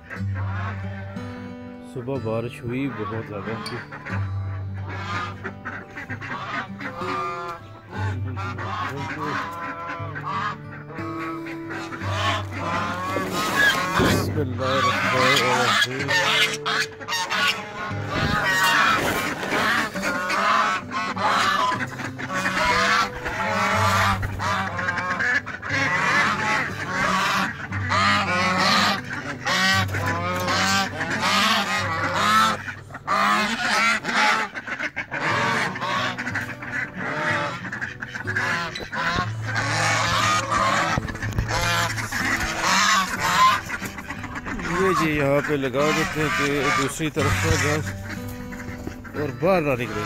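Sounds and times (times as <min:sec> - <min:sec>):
ducks quacking: 0:00.0 - 0:50.0.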